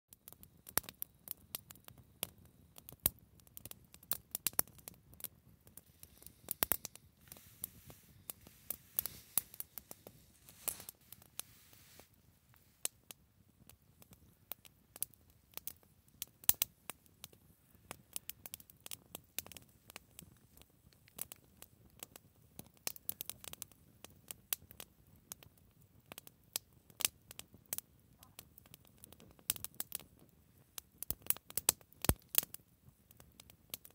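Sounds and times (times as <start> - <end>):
fire snapping and popping: 0.2 - 33.9
wood fire crackling: 0.2 - 33.9.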